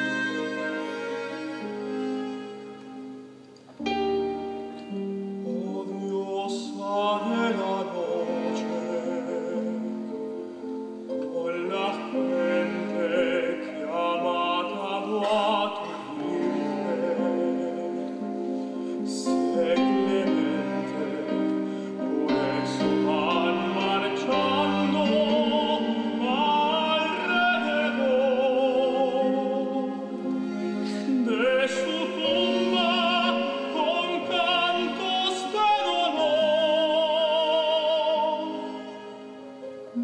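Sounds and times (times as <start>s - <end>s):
operatic voice singing: 5.5s - 10.1s, 11.3s - 40.0s.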